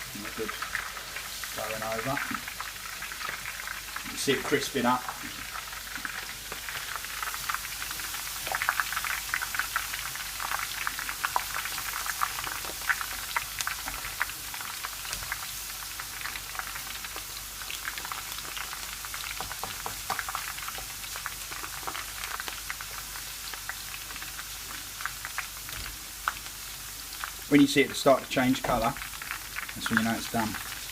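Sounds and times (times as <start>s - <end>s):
greens sizzling in hot oil: 0.0s - 30.9s.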